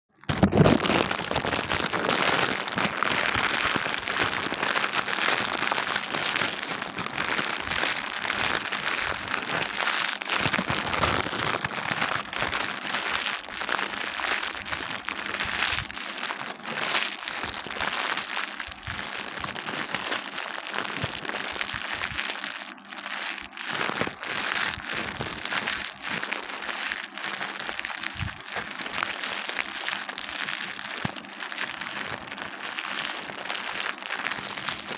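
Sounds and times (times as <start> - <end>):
dense crackling and crinkling: 0.2 - 34.9.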